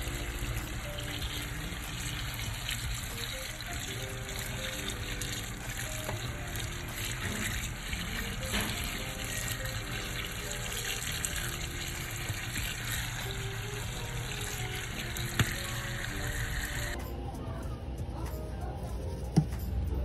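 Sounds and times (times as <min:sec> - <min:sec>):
greens rinsed in metal colander: 0:00.0 - 0:17.0
tap water running into sink: 0:00.0 - 0:17.0.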